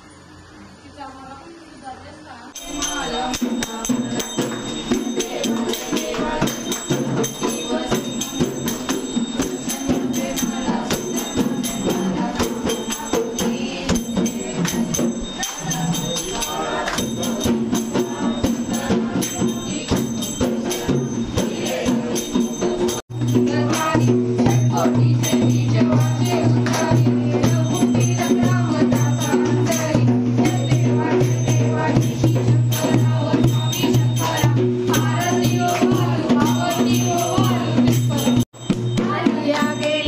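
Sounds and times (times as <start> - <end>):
group singing: 2.5 - 40.0
rhythmic clapping: 2.6 - 40.0.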